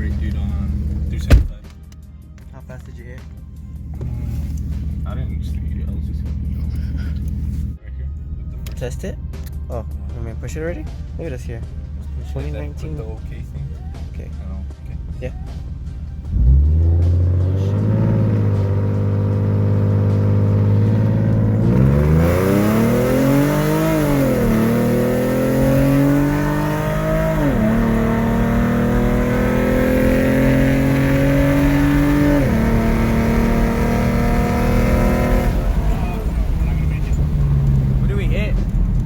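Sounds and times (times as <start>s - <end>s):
car engine accelerating: 0.0s - 1.9s, 2.9s - 39.0s.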